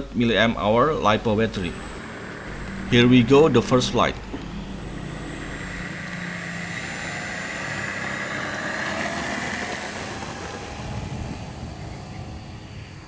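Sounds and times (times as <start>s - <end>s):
electric motor high whine: 0.0s - 13.0s
propeller buzz: 0.0s - 13.0s.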